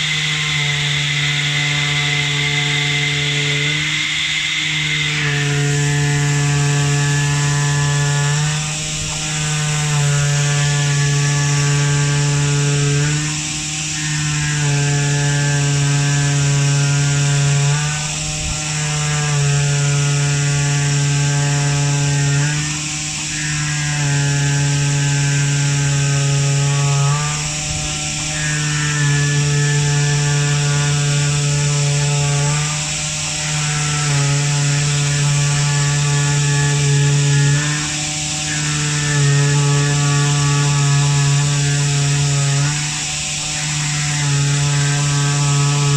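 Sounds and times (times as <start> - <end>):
cutting machine motor whine: 0.0 - 45.9.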